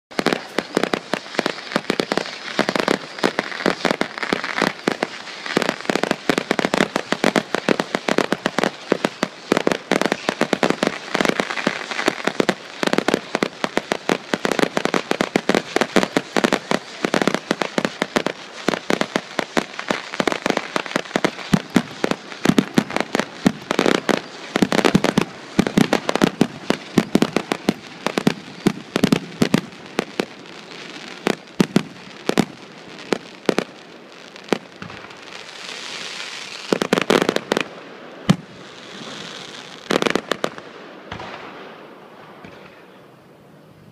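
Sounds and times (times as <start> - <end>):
fireworks bangs and crackle: 0.1 - 43.9.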